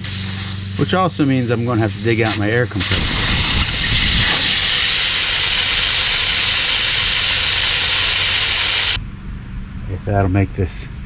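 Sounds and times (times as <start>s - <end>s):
air hissing out of tire: 0.0s - 9.0s.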